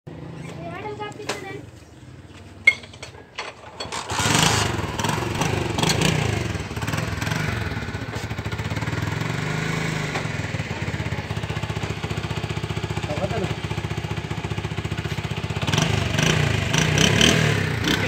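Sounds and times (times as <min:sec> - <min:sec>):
motorcycle engine starting and idling: 0:00.1 - 0:18.0.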